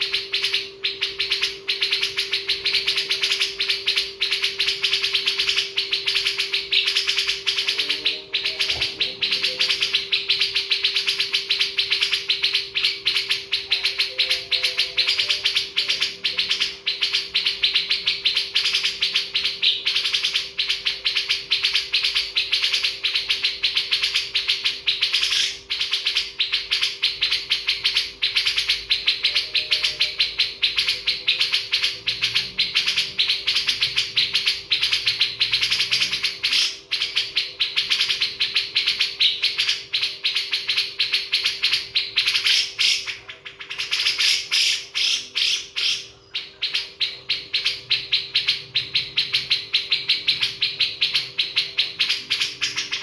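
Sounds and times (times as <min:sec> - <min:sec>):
many birds chirping: 0:00.0 - 0:53.0
steady low hum: 0:00.0 - 0:53.0.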